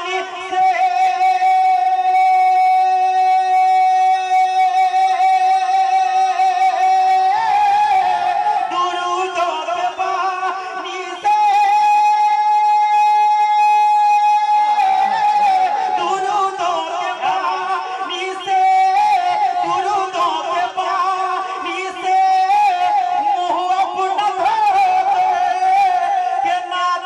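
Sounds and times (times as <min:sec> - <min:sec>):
man singing unaccompanied: 0:00.0 - 0:27.0.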